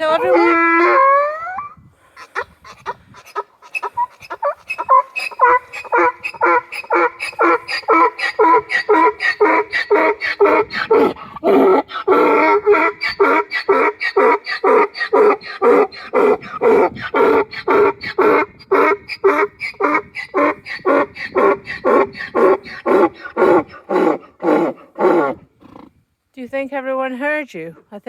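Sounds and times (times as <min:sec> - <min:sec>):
donkey braying: 0:00.0 - 0:25.9.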